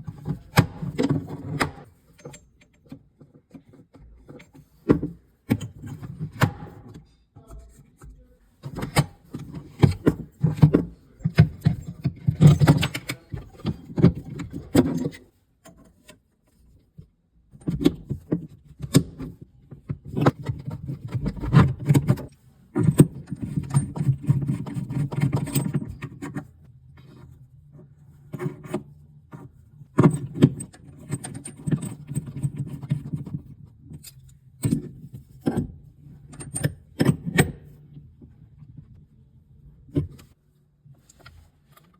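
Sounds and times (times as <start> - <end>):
tools clicking knocking and scraping: 0.0 - 37.8, 39.8 - 40.4.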